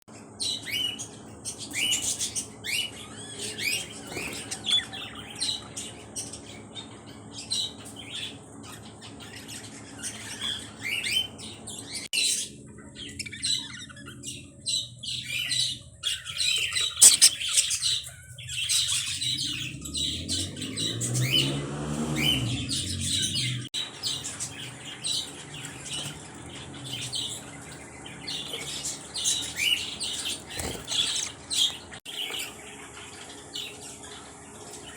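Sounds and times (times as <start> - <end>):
small birds chirping and squawking: 0.1 - 34.9.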